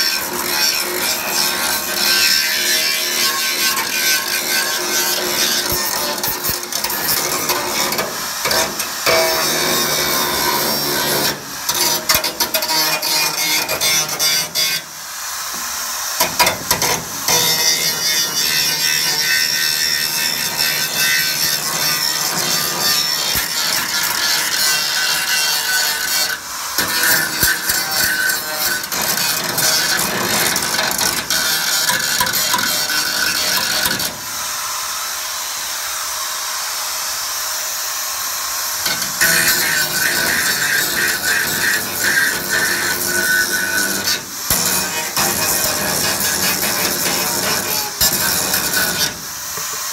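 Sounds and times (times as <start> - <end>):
welding torch flame hissing: 0.0 - 35.2, 38.8 - 49.9.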